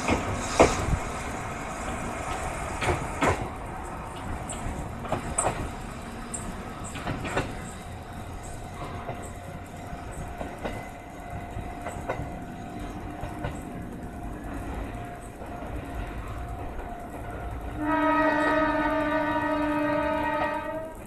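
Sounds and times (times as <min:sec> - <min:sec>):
train wheels clacking on rails: 0:00.0 - 0:21.0.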